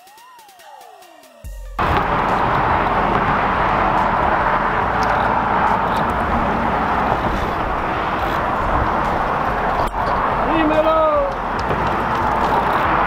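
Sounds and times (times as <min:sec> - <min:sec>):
steady rushing background noise: 0:01.8 - 0:13.0.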